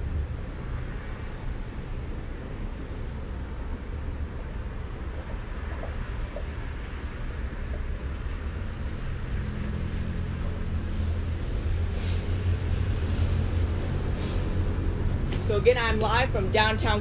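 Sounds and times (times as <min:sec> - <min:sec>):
rain: 0:00.0 - 0:15.4
wind: 0:00.0 - 0:17.0.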